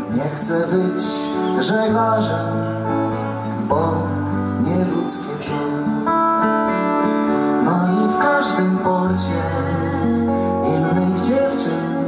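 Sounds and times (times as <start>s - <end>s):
acoustic guitars playing ballad: 0.0s - 12.0s
person singing: 0.0s - 12.0s.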